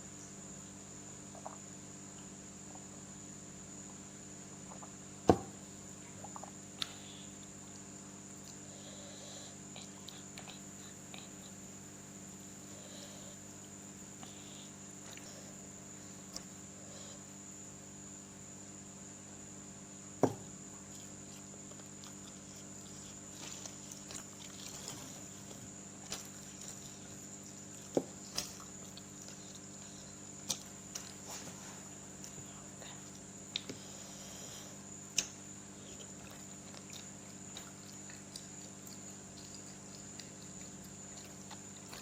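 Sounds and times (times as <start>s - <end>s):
faint hum: 0.0s - 42.0s.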